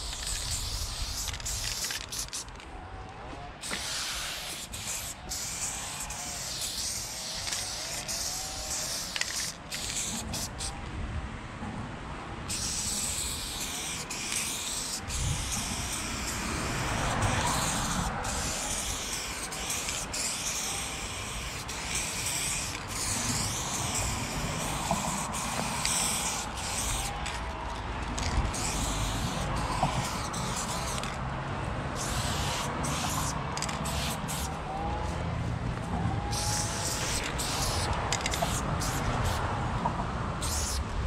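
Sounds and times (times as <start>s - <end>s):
aerosol spray paint hissing: 0.0s - 2.5s, 3.6s - 10.8s, 12.5s - 31.2s, 32.0s - 34.6s, 36.3s - 39.4s, 40.4s - 40.9s.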